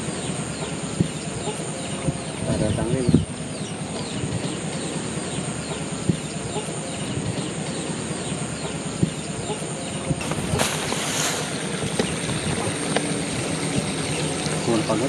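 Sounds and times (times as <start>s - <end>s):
insect whine: 0.0s - 15.0s
small birds chirping: 0.0s - 15.0s.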